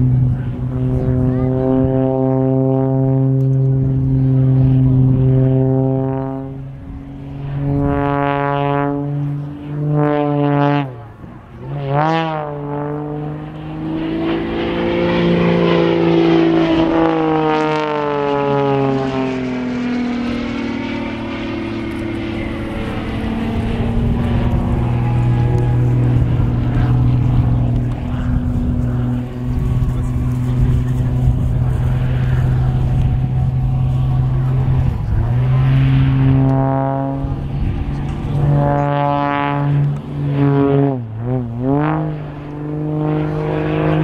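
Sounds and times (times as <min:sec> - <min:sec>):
propeller plane engine: 0:00.0 - 0:44.0.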